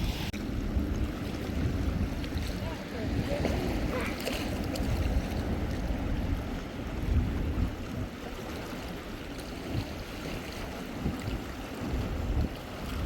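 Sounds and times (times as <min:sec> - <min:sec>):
sea surf: 0:00.0 - 0:13.0
wind buffeting microphone: 0:00.0 - 0:13.0.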